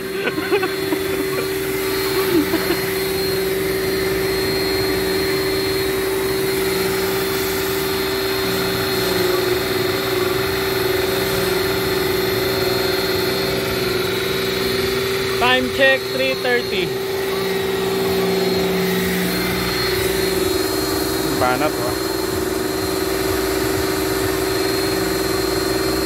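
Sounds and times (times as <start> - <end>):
power tool motor whine: 0.0 - 26.0.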